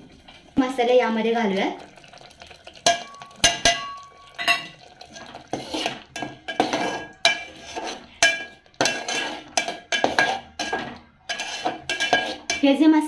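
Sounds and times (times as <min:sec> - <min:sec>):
steel bowl clinking on pot: 0:02.0 - 0:12.7
spatula scraping pot: 0:02.0 - 0:12.8.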